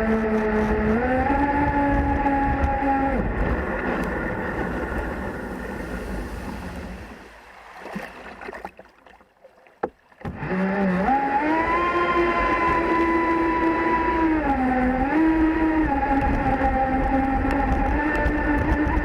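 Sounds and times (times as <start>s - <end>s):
water rushing: 1.1s - 19.0s.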